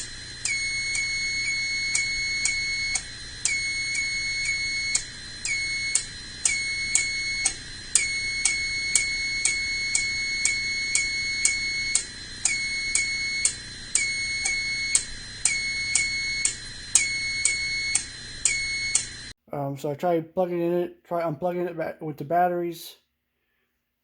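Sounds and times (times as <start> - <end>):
fire alarm beeping: 0.0 - 19.3.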